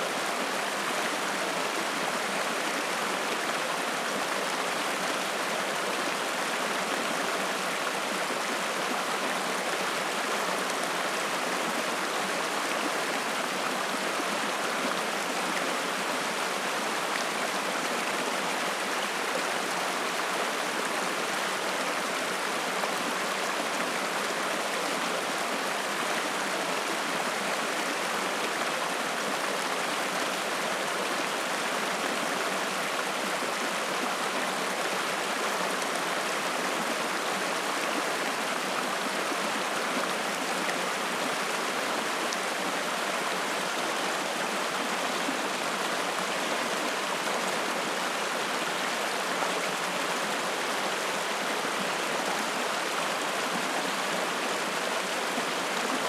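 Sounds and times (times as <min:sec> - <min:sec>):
stream rushing water: 0:00.0 - 0:56.0.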